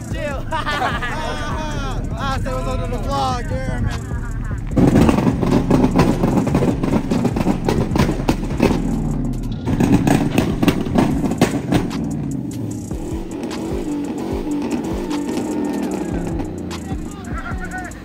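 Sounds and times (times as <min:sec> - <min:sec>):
pickup truck engine revving: 0:00.0 - 0:18.0.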